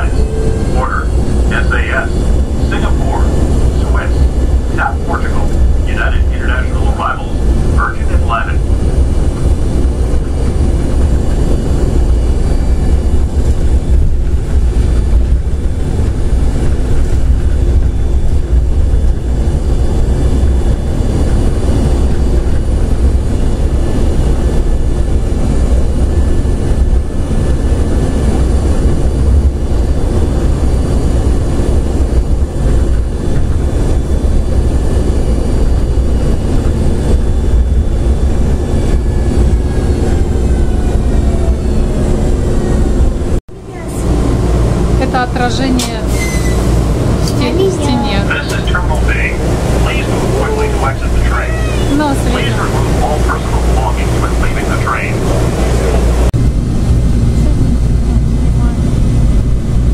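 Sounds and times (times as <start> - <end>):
train car rumble: 0.0 - 59.9.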